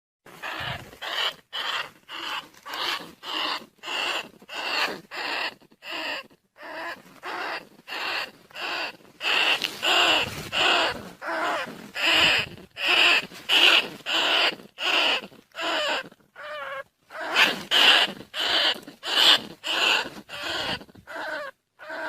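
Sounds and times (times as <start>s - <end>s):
shrill rat squeaks: 0.4s - 22.0s.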